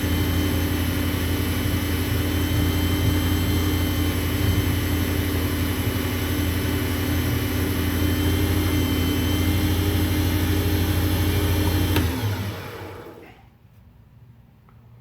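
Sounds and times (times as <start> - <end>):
wood lathe motor humming: 0.0 - 13.2.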